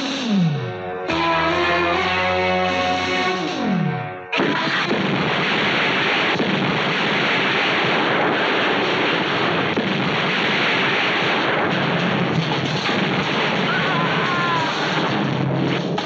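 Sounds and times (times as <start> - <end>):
sharp bangs: 0.0 - 16.0
chain of large explosions: 0.1 - 16.0.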